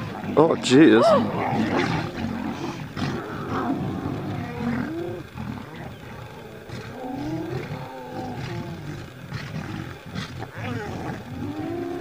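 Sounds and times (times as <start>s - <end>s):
hyenas whooping: 0.0s - 12.0s
low grunting: 0.0s - 12.0s.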